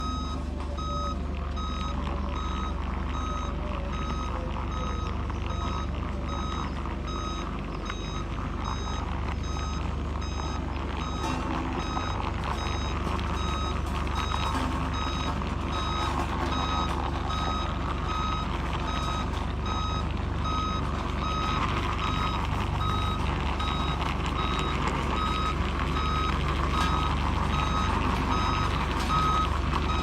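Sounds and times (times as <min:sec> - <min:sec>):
backup alarm beeping: 0:00.0 - 0:30.0
diesel engine rumble: 0:00.0 - 0:30.0.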